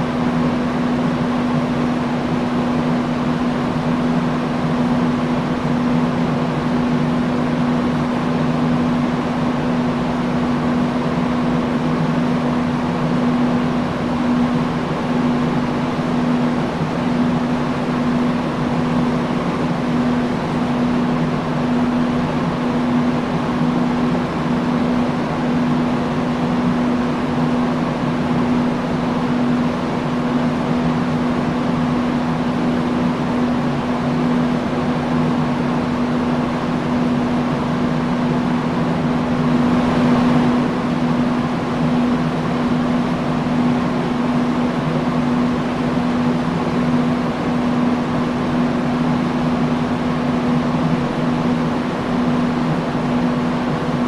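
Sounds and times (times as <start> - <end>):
industrial fan air rush: 0.0 - 54.0
steady low hum: 0.0 - 54.0.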